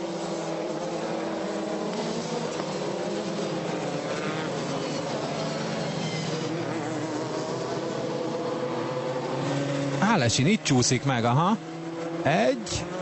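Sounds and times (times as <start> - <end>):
racing car engines accelerating: 0.0 - 13.0.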